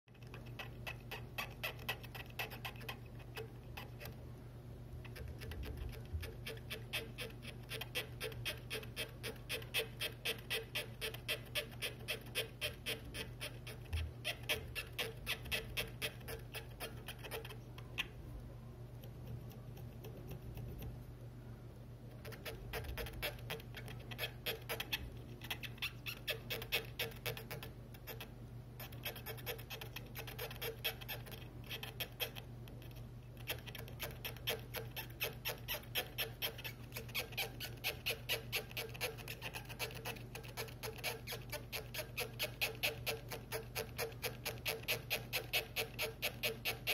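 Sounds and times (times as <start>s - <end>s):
wooden stick scratching sensor: 0.1s - 4.2s, 5.0s - 18.4s, 19.0s - 21.0s, 22.1s - 46.9s.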